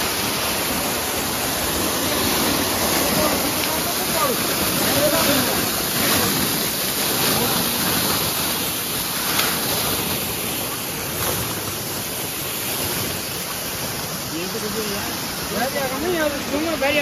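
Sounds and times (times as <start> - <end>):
loud rushing water: 0.0 - 17.0.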